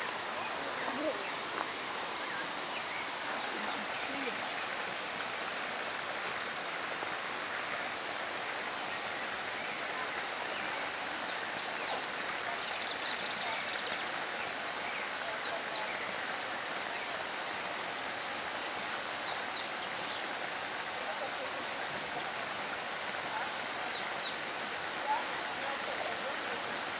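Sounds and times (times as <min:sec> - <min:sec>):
rainforest ambience hiss: 0:00.0 - 0:26.9.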